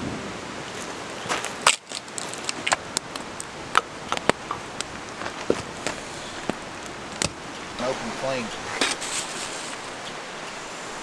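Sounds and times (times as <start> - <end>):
steady background hiss: 0.0 - 11.0
campfire crackling and popping: 0.6 - 10.5.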